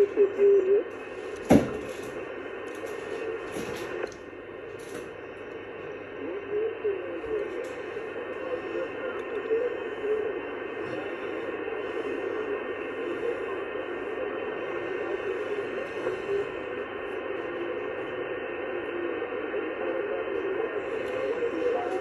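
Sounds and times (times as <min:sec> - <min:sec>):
radio static and hiss: 0:00.0 - 0:22.0.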